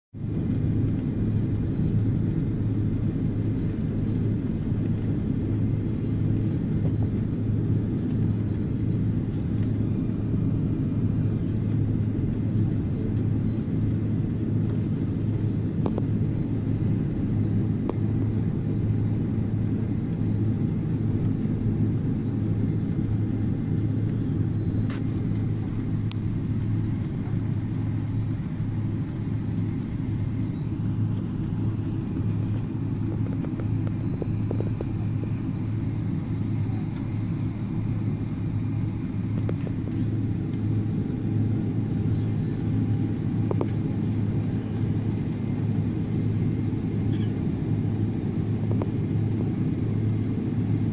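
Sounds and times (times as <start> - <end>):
aircraft cabin engine rumble: 0.2 - 50.9.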